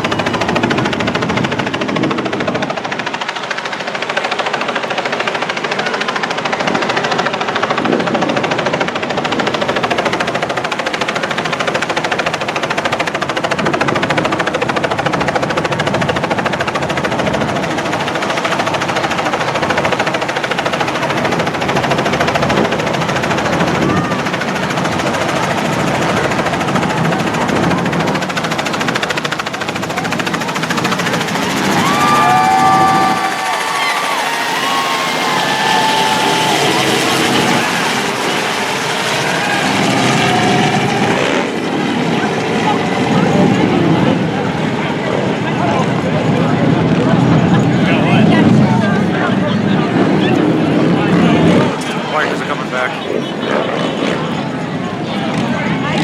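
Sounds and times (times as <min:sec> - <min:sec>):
loud engine with rapid rattle: 0:00.0 - 0:56.0.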